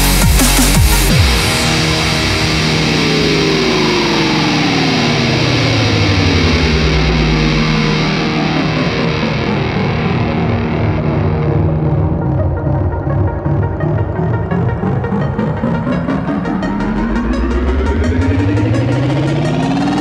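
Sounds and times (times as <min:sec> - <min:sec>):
background music: 0:00.0 - 0:20.0
falling pitch sweep: 0:00.0 - 0:20.0.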